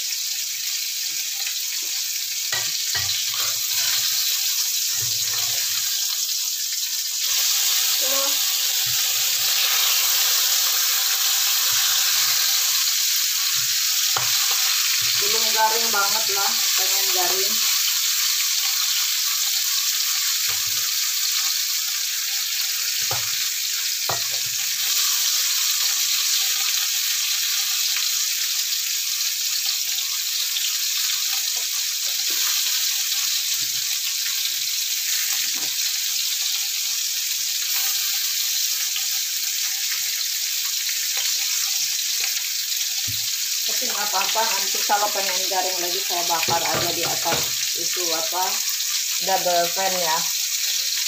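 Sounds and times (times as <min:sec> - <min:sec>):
fish sizzling in hot oil: 0:00.0 - 0:51.0.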